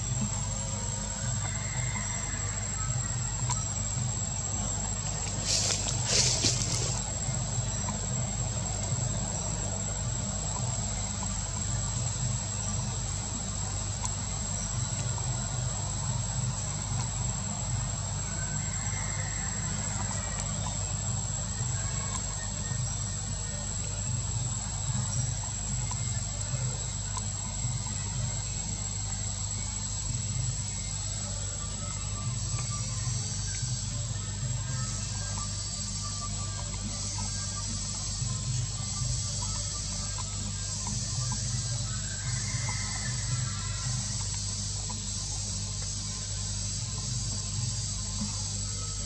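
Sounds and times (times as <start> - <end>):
high-pitched insect drone: 0.0 - 49.0
low steady hum: 0.0 - 49.0.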